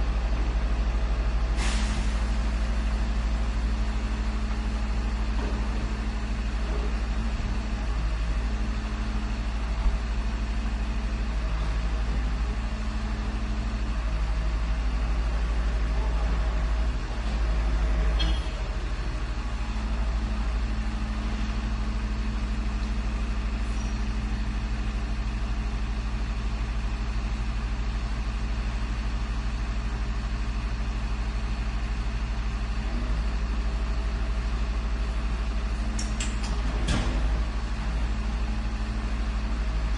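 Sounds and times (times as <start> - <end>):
garbage truck engine idling: 0.0 - 39.9.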